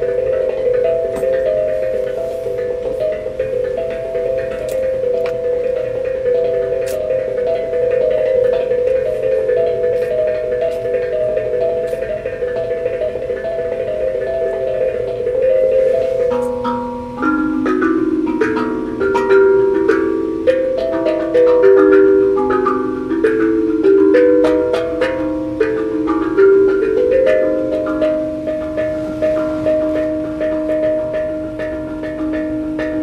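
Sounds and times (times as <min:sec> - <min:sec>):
tuned percussion melodic run: 0:00.0 - 0:33.0.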